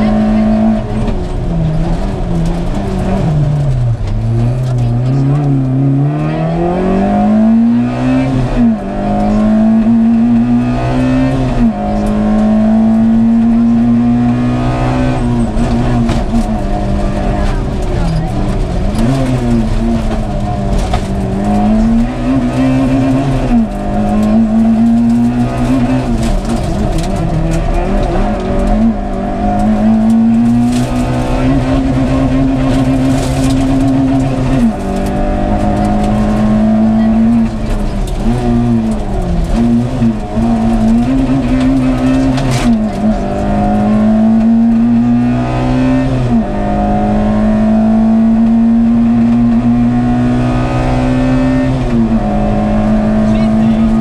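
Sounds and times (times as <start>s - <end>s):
rally car engine revving: 0.0s - 54.0s
road and tyre noise: 0.0s - 54.0s.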